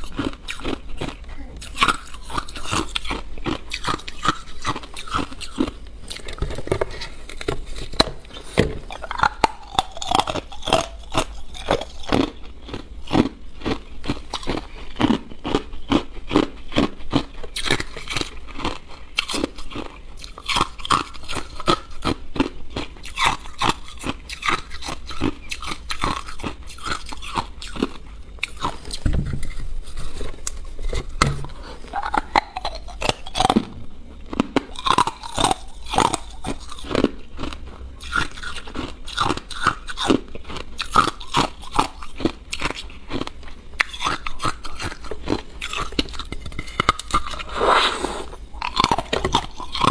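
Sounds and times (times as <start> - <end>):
ice crunching being chewed: 0.0 - 49.9.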